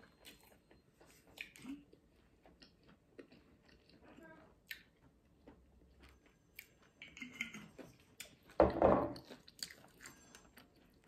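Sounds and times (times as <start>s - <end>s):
chewing with wet mouth clicks: 0.0s - 8.6s, 9.2s - 11.0s.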